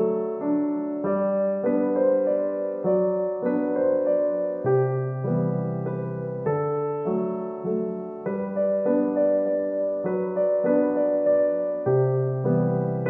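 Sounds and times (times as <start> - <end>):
soft piano-like keyboard music: 0.0 - 13.0.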